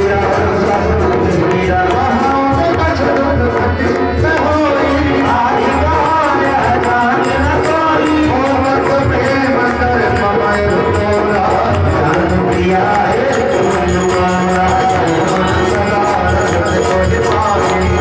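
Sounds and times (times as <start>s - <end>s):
hand percussion ticking: 0.0s - 18.0s
harmonium: 0.0s - 18.0s
man singing: 0.0s - 18.0s
steady drum beat: 0.0s - 18.0s.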